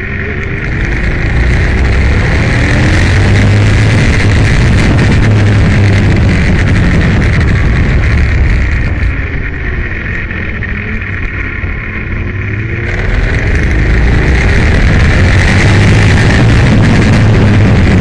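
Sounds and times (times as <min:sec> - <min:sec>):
motorcycle engine revving: 0:00.0 - 0:18.0
wind rush: 0:00.0 - 0:18.0.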